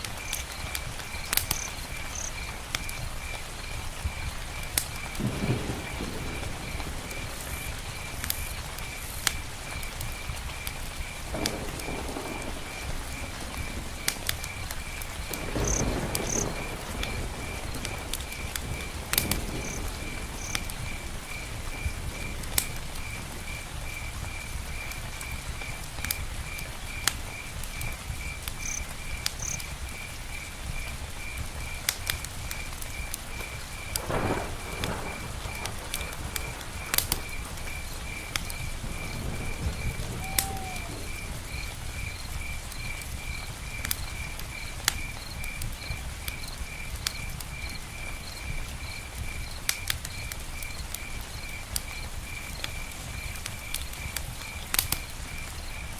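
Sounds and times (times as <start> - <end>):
cricket chirping: 0.0 - 55.9
fire crackling: 0.0 - 55.9
rain rushing: 0.0 - 55.9.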